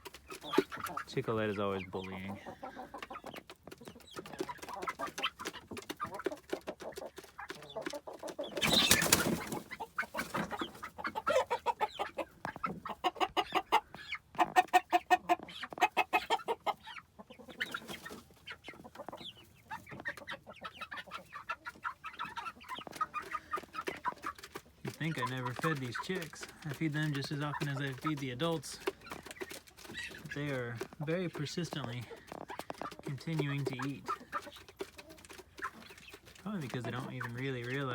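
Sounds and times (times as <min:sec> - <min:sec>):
chickens clucking: 0:00.0 - 0:37.9.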